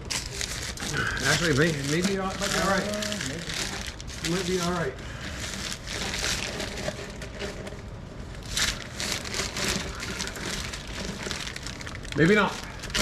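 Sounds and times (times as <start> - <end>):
metal pipes scraping and crackling: 0.0 - 13.0.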